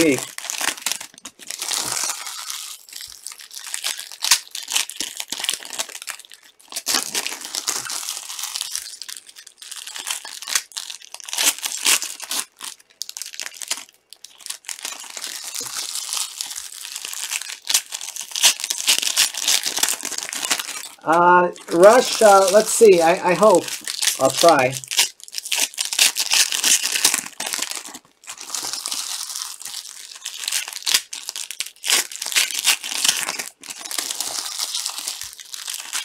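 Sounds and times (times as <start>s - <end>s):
foil wrappers crinkling and tearing: 0.0s - 36.0s.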